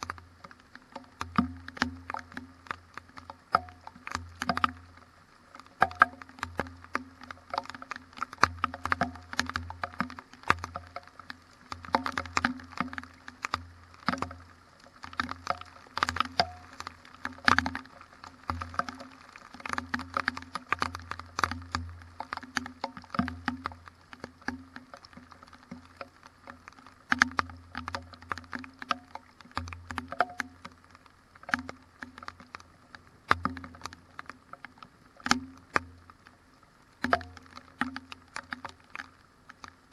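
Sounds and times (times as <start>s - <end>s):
raindrops tapping on camera: 0.0s - 39.9s.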